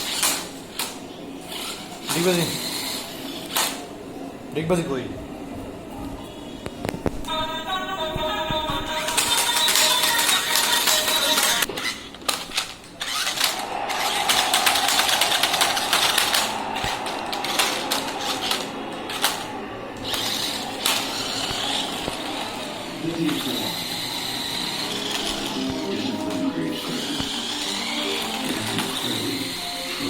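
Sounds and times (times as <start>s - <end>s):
toy car motor buzzing: 0.0s - 3.8s, 9.0s - 30.0s.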